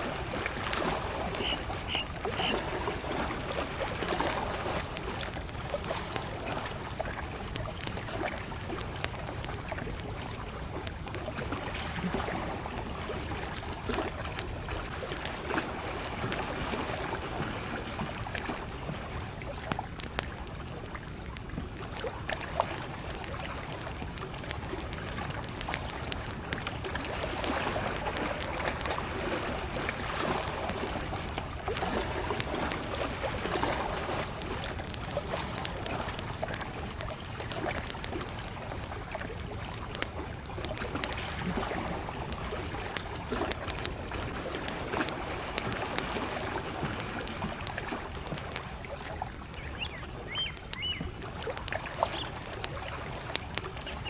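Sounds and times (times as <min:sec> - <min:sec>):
campfire crackling: 0:00.0 - 0:54.0
small waves lapping at shore: 0:00.0 - 0:54.0.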